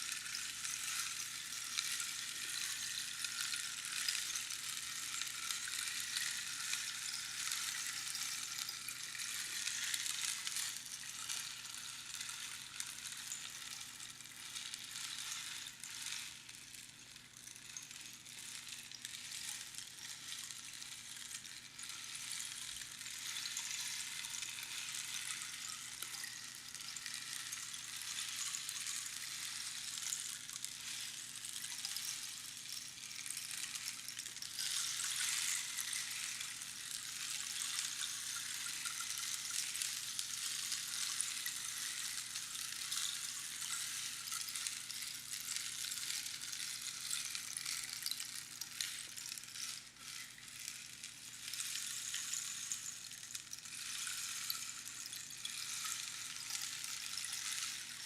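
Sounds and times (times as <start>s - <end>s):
rainstick pebbles rattling: 0.0s - 58.0s.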